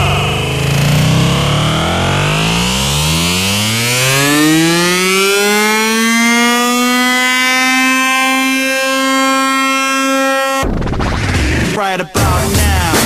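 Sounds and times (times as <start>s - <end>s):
buzzy synth tone rising: 0.0s - 11.8s.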